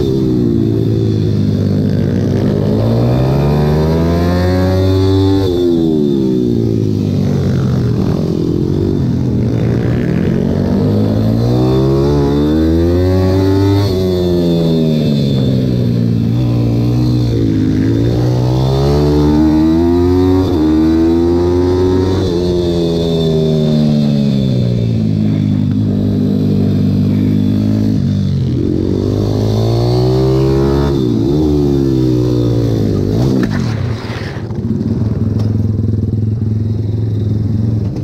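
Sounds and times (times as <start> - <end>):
motorbike engine revving: 0.0 - 36.5.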